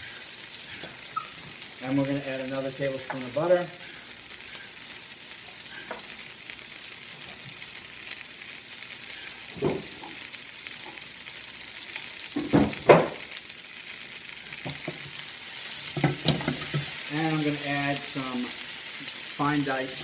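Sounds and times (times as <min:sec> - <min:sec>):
butter and gnocchi sizzling: 0:00.0 - 0:20.0.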